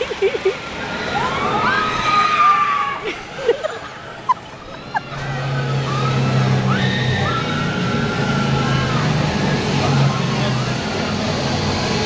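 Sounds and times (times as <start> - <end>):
ride machine hum: 0.0 - 12.0
riders screaming: 0.8 - 10.9.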